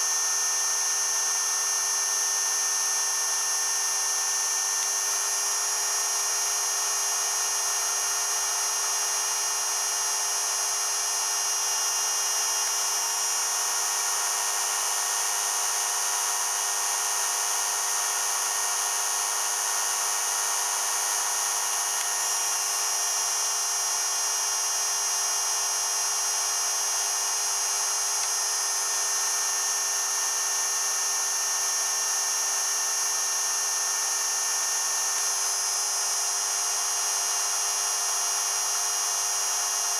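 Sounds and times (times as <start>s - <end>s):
spinning rotor high-pitched whine: 0.0s - 39.9s.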